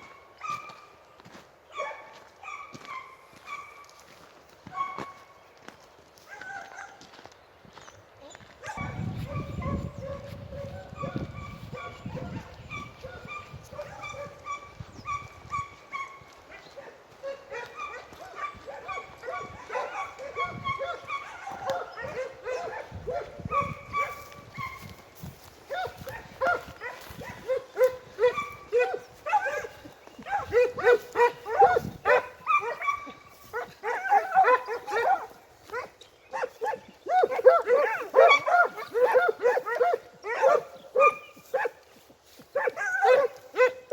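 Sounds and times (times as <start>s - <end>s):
hounds baying: 1.6s - 5.4s, 8.6s - 43.9s.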